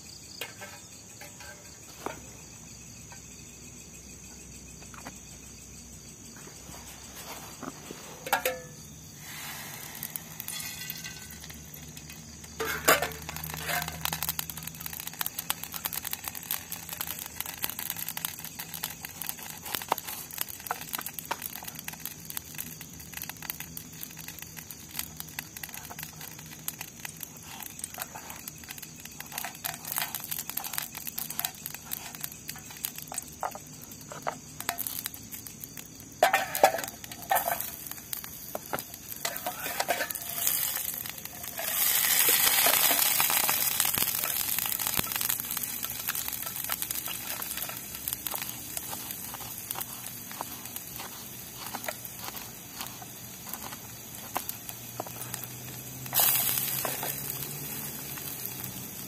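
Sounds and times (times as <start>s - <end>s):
crickets chirping: 0.0s - 59.0s
oil crackling and sizzling: 0.0s - 59.0s.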